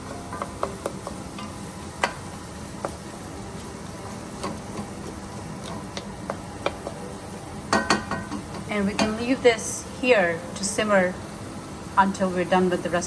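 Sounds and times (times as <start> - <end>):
sauce sizzling in a skillet: 0.0 - 13.0.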